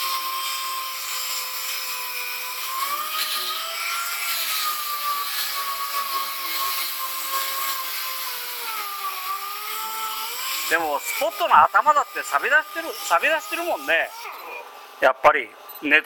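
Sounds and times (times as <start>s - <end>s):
power grinder whining on metal: 0.0s - 15.9s.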